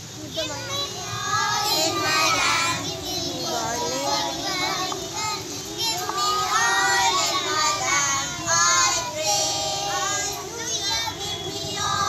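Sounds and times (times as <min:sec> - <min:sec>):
children singing in chorus: 0:00.5 - 0:12.0.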